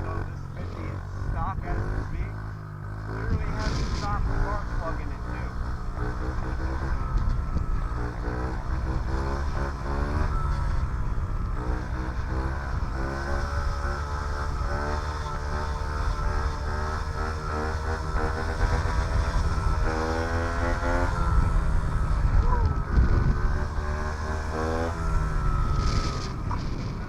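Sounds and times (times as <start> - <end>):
small motorcycle engine revving: 0.0 - 27.0.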